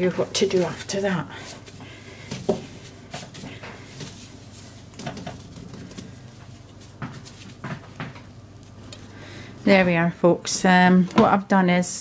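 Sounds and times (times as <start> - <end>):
dough being kneaded: 0.0 - 10.1.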